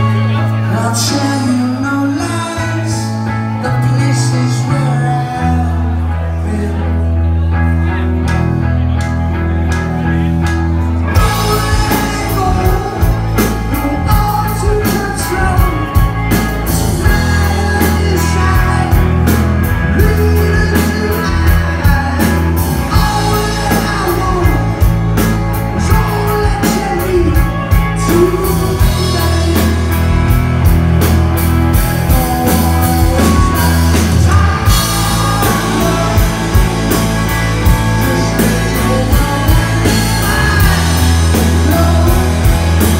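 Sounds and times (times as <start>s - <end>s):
person singing: 0.0s - 8.9s, 10.8s - 31.1s, 31.7s - 42.9s
live rock band playing: 0.0s - 42.9s.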